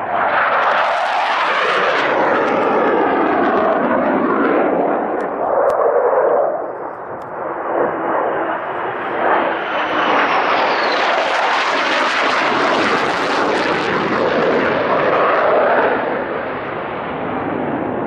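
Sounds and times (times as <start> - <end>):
high jet engine whine: 0.0 - 18.0
jet roar: 0.0 - 18.0.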